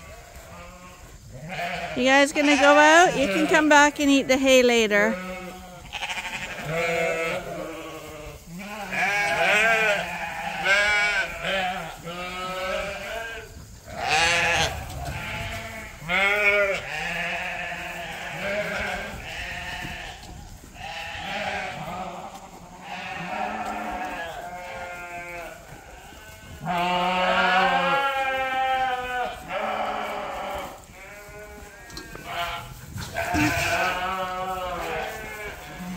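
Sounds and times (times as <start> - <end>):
sheep bleating: 0.0 - 35.9.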